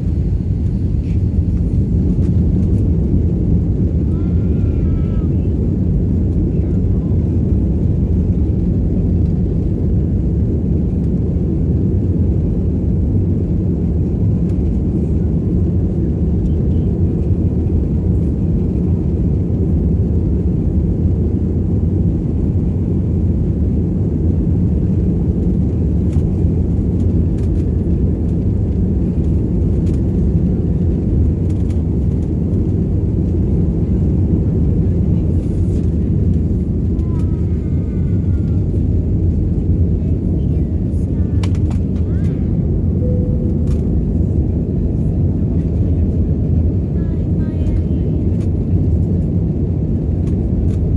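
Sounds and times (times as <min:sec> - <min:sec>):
jet engine roar in cabin: 0:00.0 - 0:50.9.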